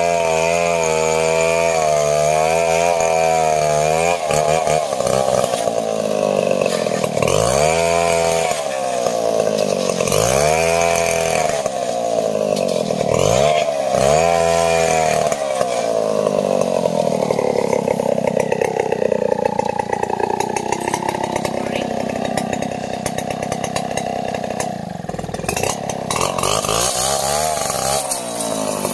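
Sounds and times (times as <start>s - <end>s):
chainsaw ripping log: 0.0s - 28.9s.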